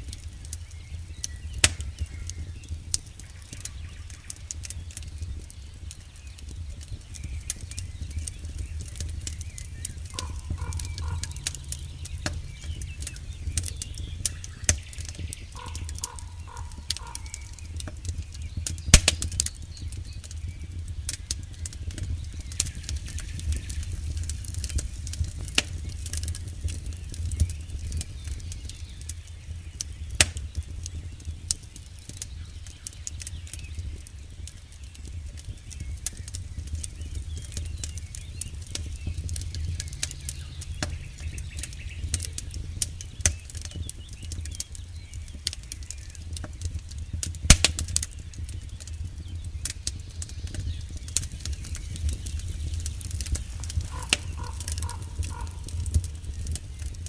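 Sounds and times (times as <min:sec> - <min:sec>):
burning wood crackling and popping: 0:00.0 - 0:57.0
low rumble of flames: 0:00.0 - 0:57.0.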